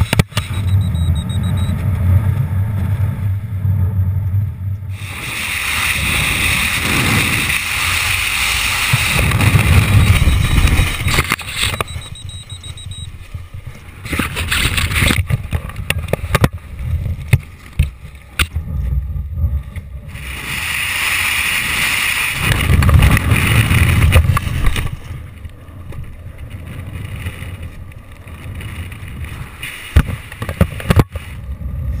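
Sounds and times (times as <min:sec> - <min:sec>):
wind buffeting microphone: 0:01.7 - 0:32.0.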